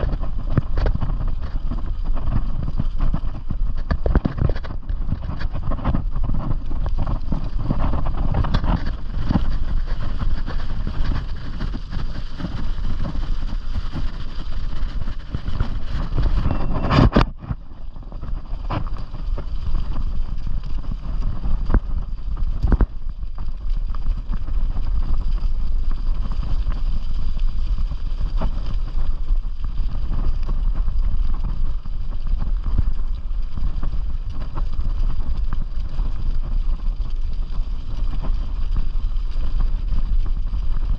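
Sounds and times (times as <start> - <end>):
bicycle tyres rolling on gravel: 0.0 - 40.9
bike rattling over bumps: 0.0 - 40.9
wind buffeting microphone: 0.0 - 40.9.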